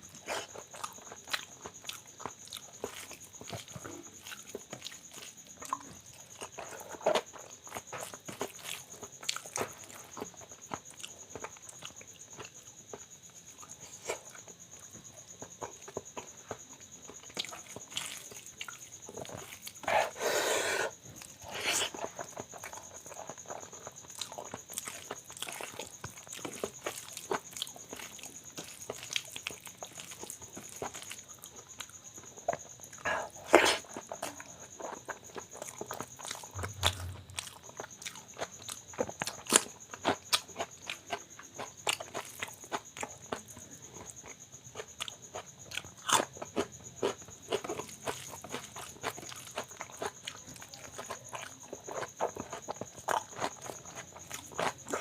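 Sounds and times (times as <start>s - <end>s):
wet chewing and lip-smacking: 0.3s - 20.0s, 20.9s - 55.0s.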